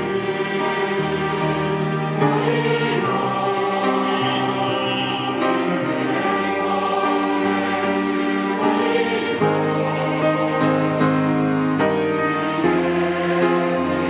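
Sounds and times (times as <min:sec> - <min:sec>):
church choir singing: 0:00.0 - 0:14.0.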